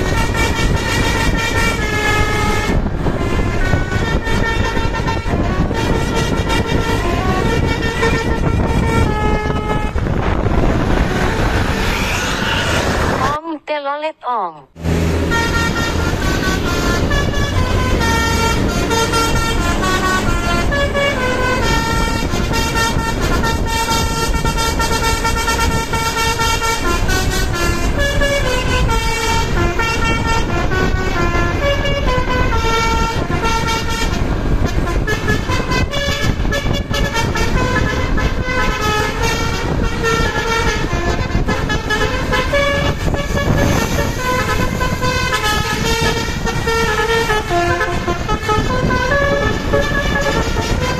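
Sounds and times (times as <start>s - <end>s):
multi-tone bus horn melodies: 0.0s - 12.2s, 14.7s - 50.9s
bus engines rumbling: 0.0s - 50.9s
traffic: 0.0s - 50.9s.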